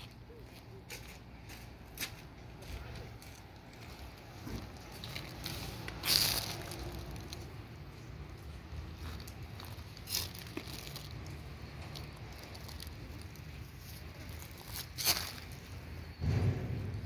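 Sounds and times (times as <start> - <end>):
dry leaves and gravel crunching: 0.0 - 17.0.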